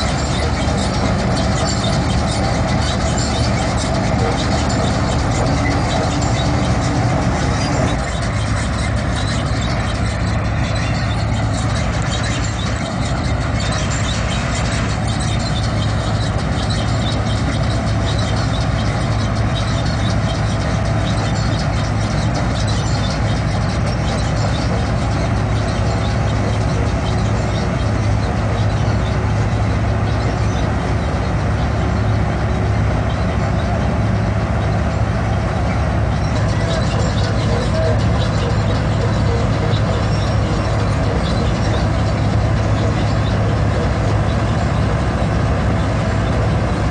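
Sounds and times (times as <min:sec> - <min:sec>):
combine harvester running: 0:00.0 - 0:46.9.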